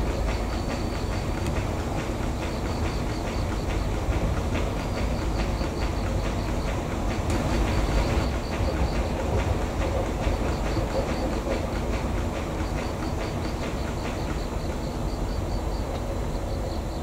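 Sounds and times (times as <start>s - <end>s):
diesel locomotive engine rumble: 0.0s - 17.0s
wheels clattering on track: 0.0s - 17.0s.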